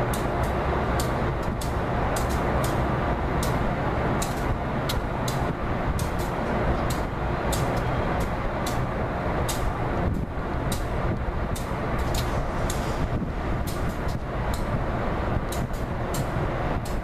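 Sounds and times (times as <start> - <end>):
train rumbling: 0.0 - 17.0
wheel clicks on rail joints: 0.0 - 17.0.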